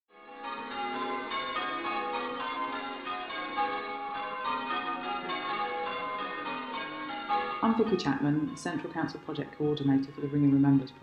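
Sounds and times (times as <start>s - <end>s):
church bells ringing: 0.1s - 11.0s.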